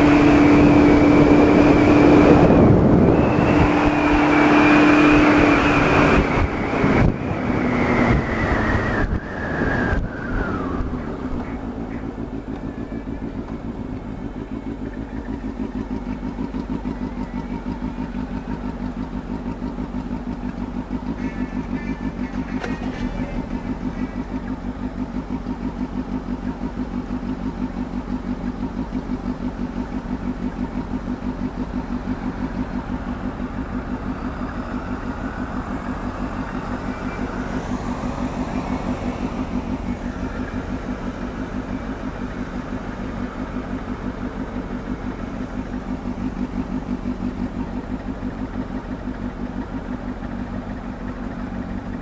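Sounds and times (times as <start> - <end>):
motorcycle engine slowing and idling: 0.0 - 52.0.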